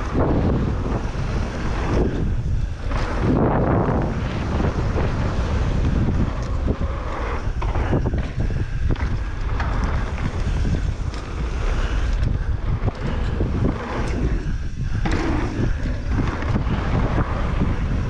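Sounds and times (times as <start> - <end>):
bike rattling over bumps: 0.0 - 18.0
tyre rumble over dirt: 0.0 - 18.0
wind buffeting microphone: 0.0 - 18.0.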